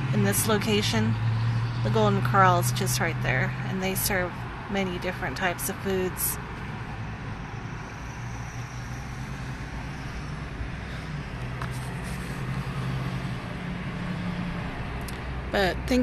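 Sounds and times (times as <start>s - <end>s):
engine hum inside car: 0.0s - 16.0s
road noise rushing: 0.0s - 16.0s.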